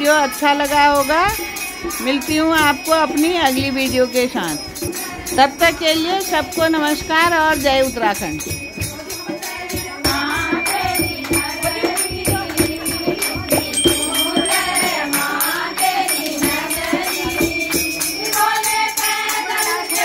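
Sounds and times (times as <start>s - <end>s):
steady percussive beat: 0.0s - 20.0s
women singing in chorus: 0.0s - 20.0s.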